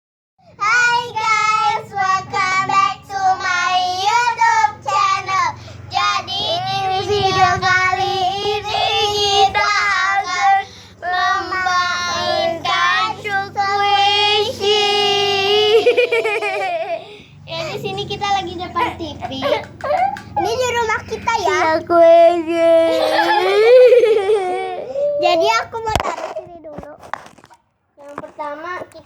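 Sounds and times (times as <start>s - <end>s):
young child singing: 0.5s - 25.8s.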